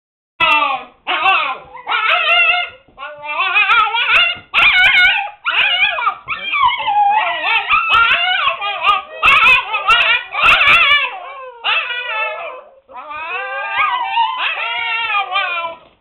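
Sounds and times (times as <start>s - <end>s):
puppies crying: 0.4s - 16.0s.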